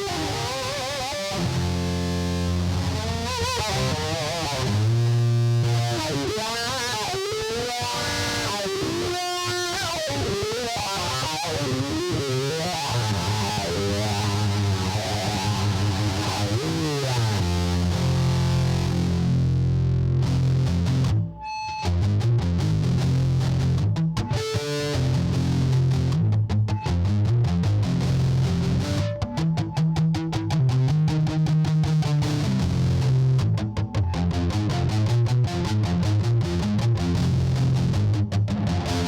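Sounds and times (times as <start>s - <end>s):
distorted amplified string instrument: 0.0s - 39.0s.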